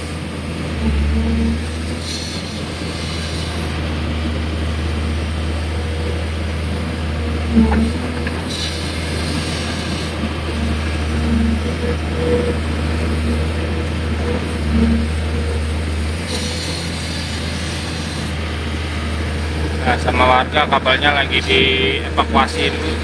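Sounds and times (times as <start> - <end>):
excavator diesel engine humming: 0.0 - 23.0.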